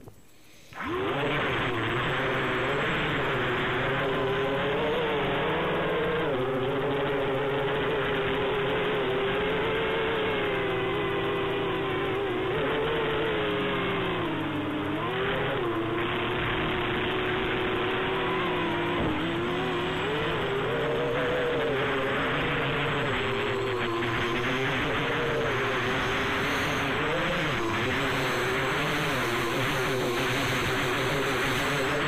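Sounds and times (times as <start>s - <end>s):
drone propellers buzzing: 0.0s - 32.0s.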